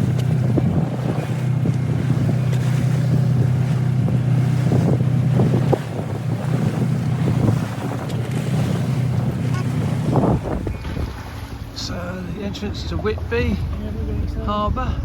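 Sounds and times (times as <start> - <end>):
boat engine droning: 0.0 - 15.0
waves splashing: 0.0 - 15.0
wind buffeting microphone: 0.0 - 15.0.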